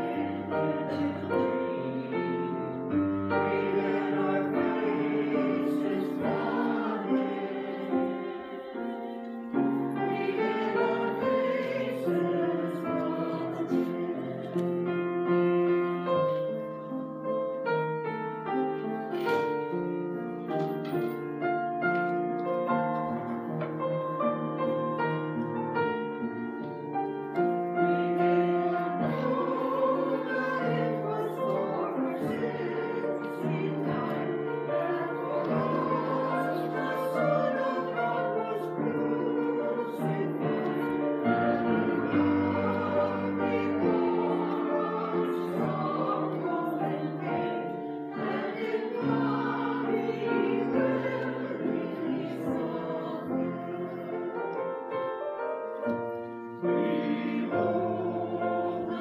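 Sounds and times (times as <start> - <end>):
church choir singing: 0.0 - 59.0
keyboard accompaniment: 0.0 - 59.0.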